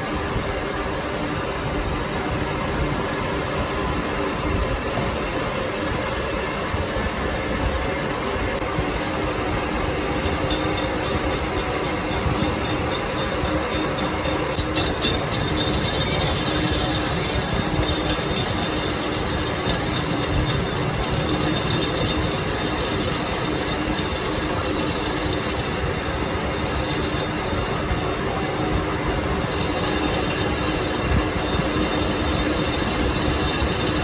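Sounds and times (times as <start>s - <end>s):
machinery droning: 0.0s - 34.0s.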